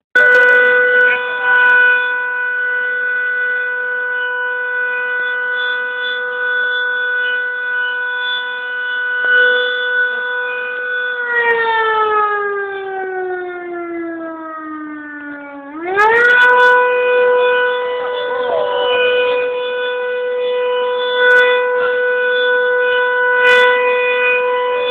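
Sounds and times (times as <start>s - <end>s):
siren long steady tone: 0.0s - 24.9s.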